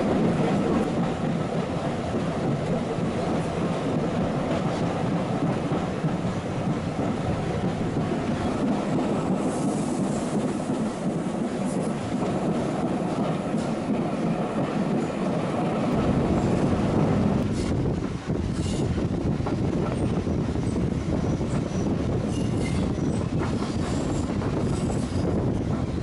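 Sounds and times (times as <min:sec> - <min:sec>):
railway carriage wheels on track: 0:00.0 - 0:26.0.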